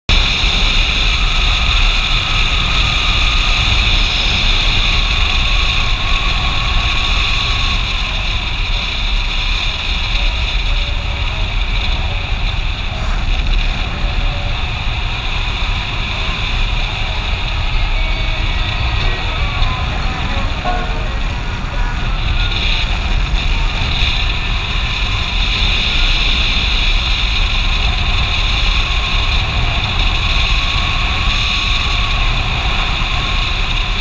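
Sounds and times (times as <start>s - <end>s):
motorcycle engine: 0.1s - 34.0s
wind rumble on microphone: 0.1s - 34.0s.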